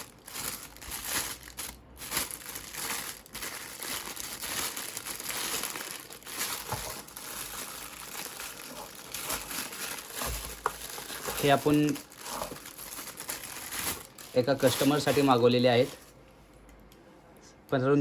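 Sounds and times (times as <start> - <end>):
packaging crinkling and rustling: 0.0 - 16.2.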